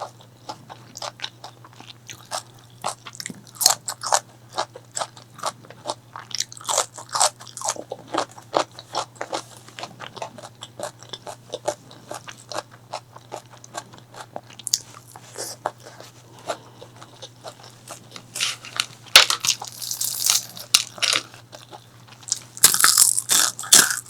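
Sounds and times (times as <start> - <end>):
crunching fried chicken: 0.0 - 24.0
wet chewing: 0.0 - 24.0.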